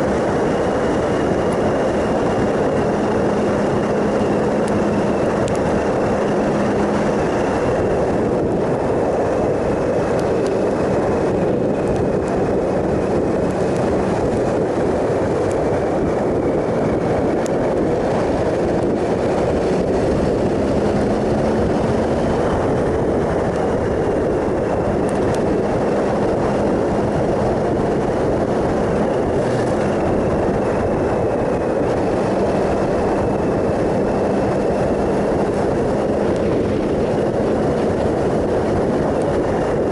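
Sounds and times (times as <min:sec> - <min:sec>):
motorcycle engine humming: 0:00.0 - 0:39.9
wind and road noise: 0:00.0 - 0:39.9.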